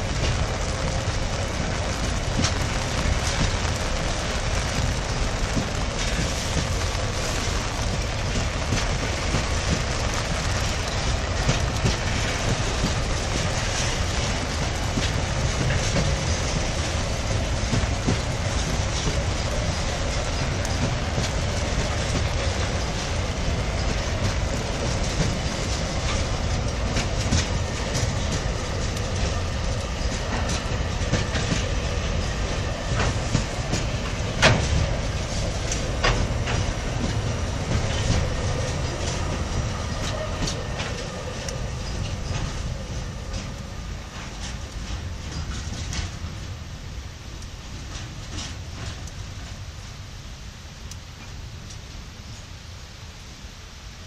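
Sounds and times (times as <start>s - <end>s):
wheels clacking over rail joints: 0.0s - 49.9s
freight wagons rumbling past: 0.0s - 50.1s.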